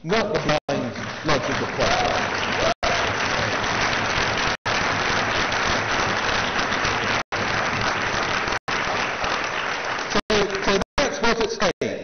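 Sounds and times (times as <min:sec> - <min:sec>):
audience applauding: 0:00.4 - 0:11.4.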